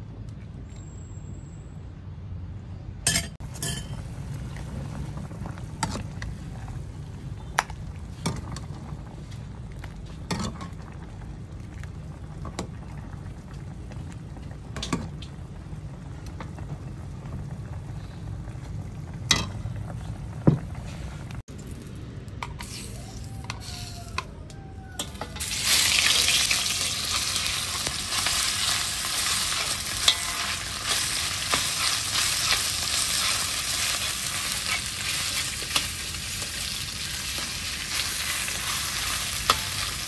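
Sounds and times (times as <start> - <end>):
pot simmering on gas stove: 3.4 - 22.0, 22.9 - 40.0.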